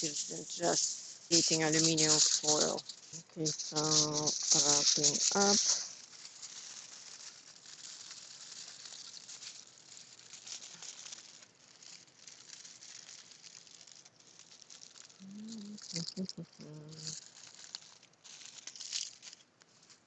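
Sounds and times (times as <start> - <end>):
aluminium foil crinkling: 0.0 - 20.0.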